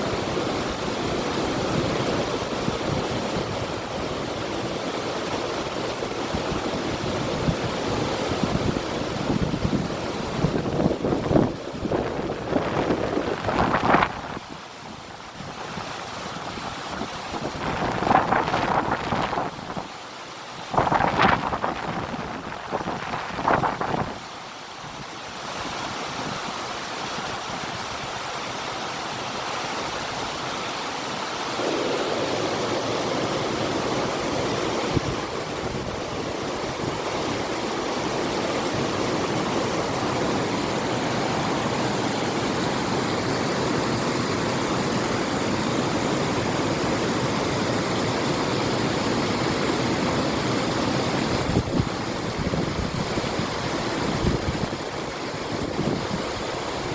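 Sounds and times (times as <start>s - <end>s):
river water rushing: 0.0s - 56.9s
wind: 0.0s - 56.9s.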